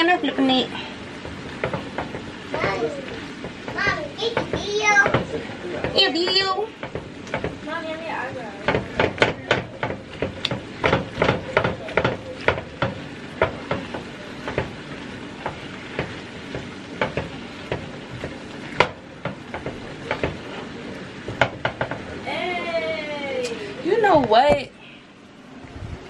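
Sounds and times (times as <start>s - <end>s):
meat sizzling: 0.0s - 24.5s.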